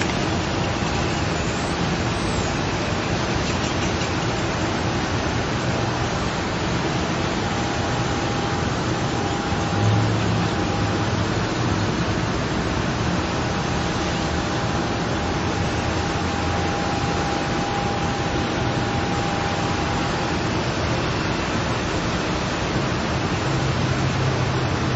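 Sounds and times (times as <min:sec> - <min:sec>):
steady hiss: 0:00.0 - 0:24.9.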